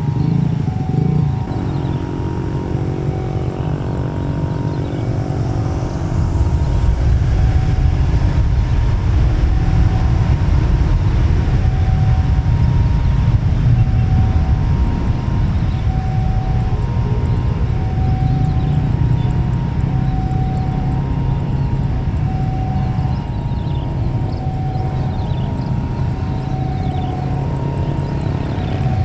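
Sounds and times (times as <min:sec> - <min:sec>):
jet engines rumbling: 0:00.0 - 0:29.0.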